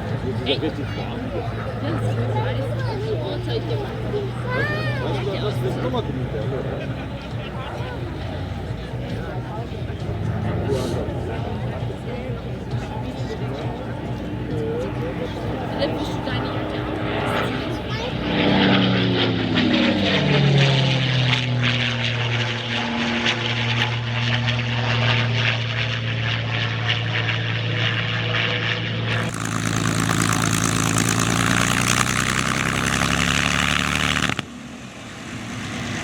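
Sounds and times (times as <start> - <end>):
propeller plane engine flypast: 0.0 - 36.0.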